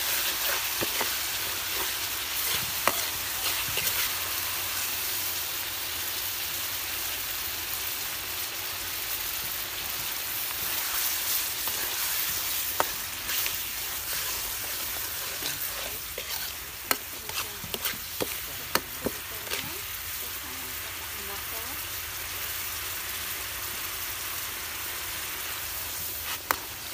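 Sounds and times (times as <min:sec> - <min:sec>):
food sizzling in a wok: 0:00.0 - 0:26.9.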